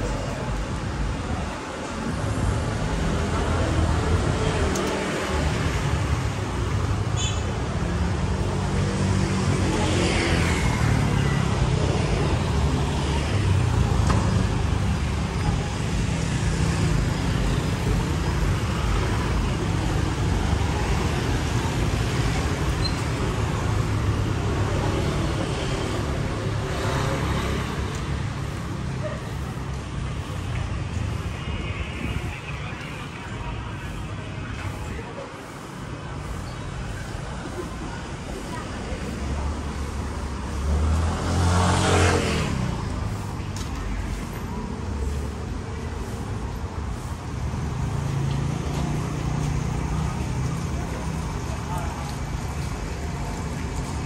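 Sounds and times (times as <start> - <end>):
traffic rumble: 0.0 - 54.0.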